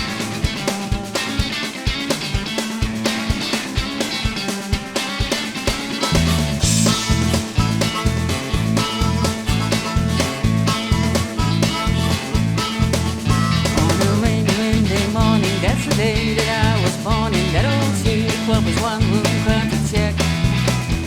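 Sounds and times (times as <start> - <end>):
country rock band playing: 0.0 - 21.0
lead guitar with bent notes: 0.0 - 21.0.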